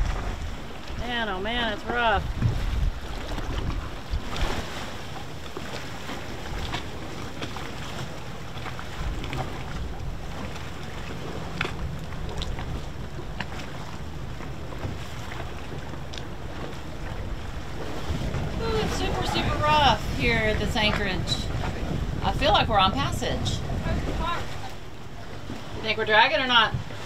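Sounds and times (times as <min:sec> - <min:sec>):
choppy waves: 0:00.0 - 0:27.0
wind buffeting microphone: 0:00.0 - 0:27.0.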